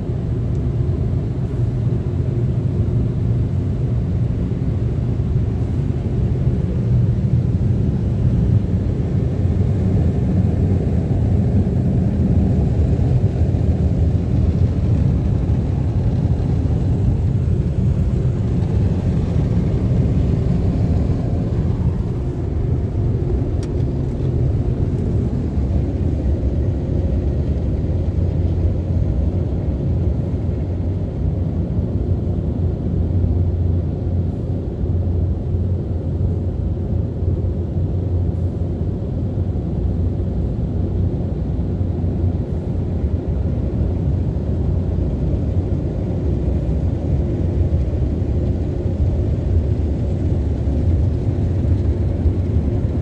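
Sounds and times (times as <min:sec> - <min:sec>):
car wash brushes and spray rumbling: 0:00.0 - 0:53.0.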